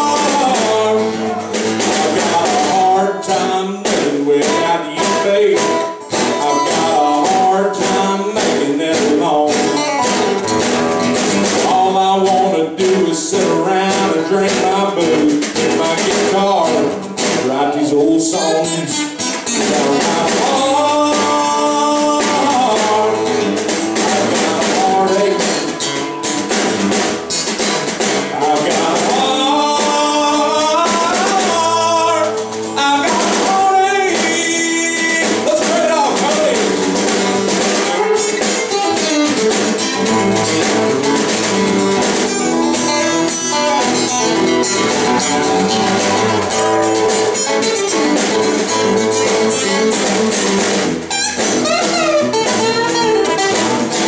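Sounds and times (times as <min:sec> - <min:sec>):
acoustic guitars strumming: 0:00.0 - 0:54.0
picked guitar melody: 0:00.0 - 0:54.0.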